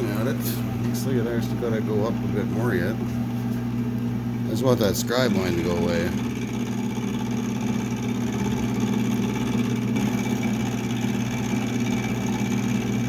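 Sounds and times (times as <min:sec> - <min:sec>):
milling machine motor hum: 0:00.0 - 0:13.0.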